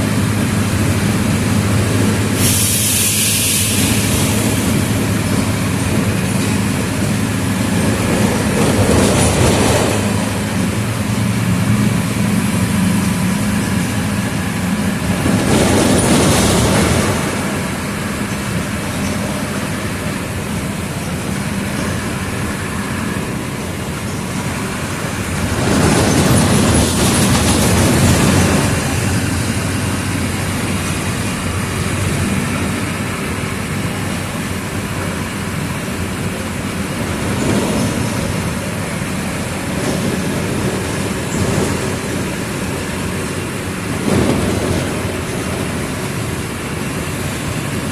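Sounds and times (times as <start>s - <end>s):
bus diesel engine humming: 0.0s - 47.9s.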